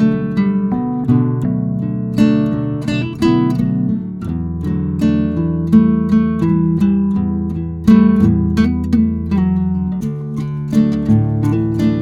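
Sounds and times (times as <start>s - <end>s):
acoustic guitar strummed: 0.0s - 12.0s.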